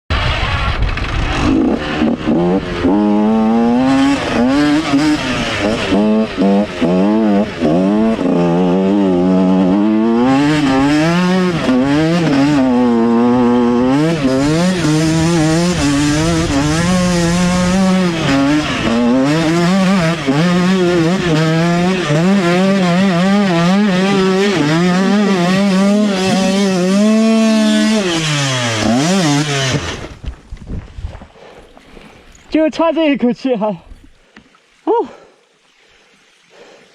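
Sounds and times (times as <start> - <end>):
motorcycle engine revving: 0.1 - 30.3.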